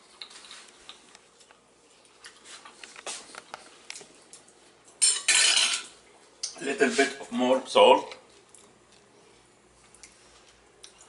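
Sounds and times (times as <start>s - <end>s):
quiet room hiss: 0.0s - 11.0s.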